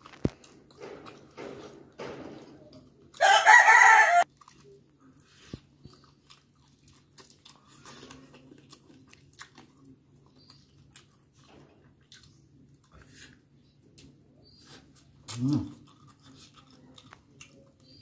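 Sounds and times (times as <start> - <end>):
person chewing bones: 0.0 - 18.0.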